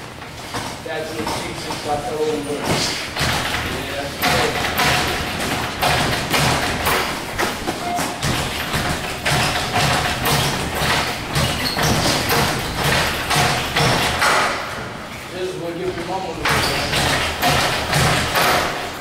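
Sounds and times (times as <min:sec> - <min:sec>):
footwork on canvas: 0:00.0 - 0:15.2, 0:15.8 - 0:19.0.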